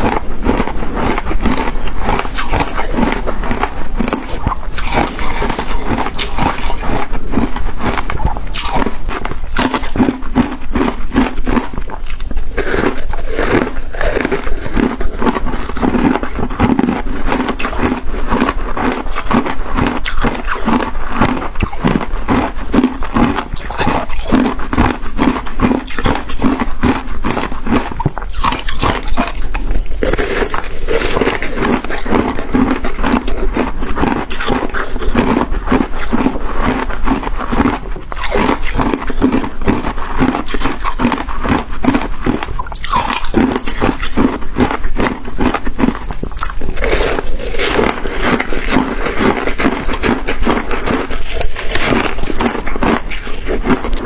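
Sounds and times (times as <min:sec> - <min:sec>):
chewing crunchy shaved ice: 0:00.0 - 0:54.0.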